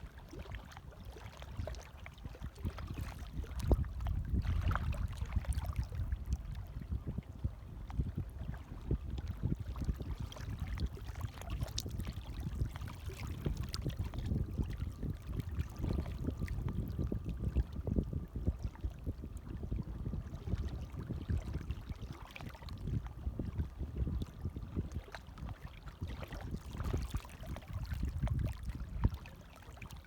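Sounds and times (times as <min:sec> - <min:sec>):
gentle waves lapping: 0:00.0 - 0:30.0.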